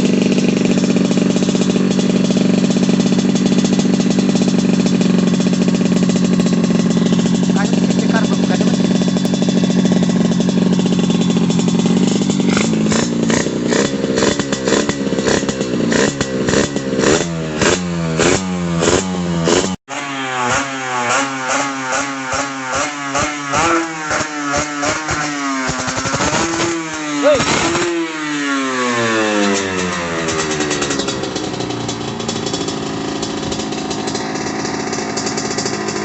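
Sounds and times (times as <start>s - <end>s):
go-kart engine revving: 0.0s - 36.0s.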